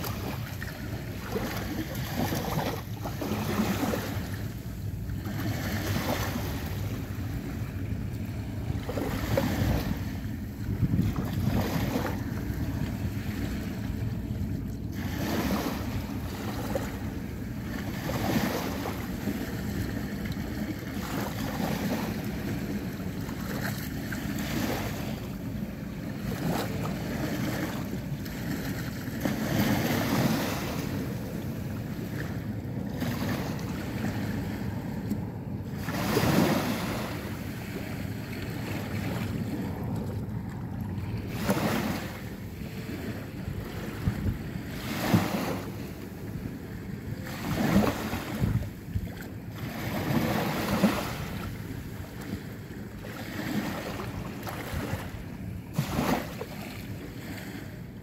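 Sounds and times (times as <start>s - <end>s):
small sea waves washing in: 0.0s - 58.0s
wind rumble on microphone: 0.0s - 58.0s.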